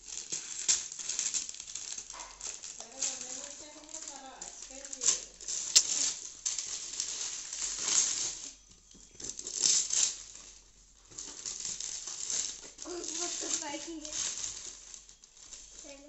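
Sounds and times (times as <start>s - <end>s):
wrapping paper crinkling and tearing: 0.0s - 16.0s.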